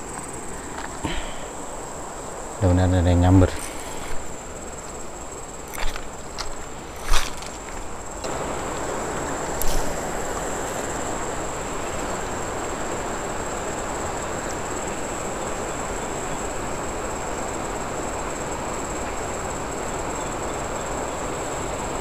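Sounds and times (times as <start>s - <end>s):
high insect trill: 0.0s - 22.0s
river water rushing: 0.0s - 22.0s.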